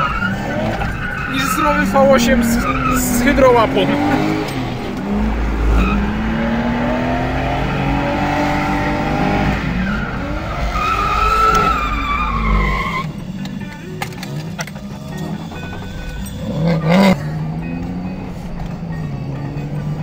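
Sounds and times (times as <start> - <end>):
tyres squealing: 0.0 - 19.6
car engine revving: 0.0 - 20.0.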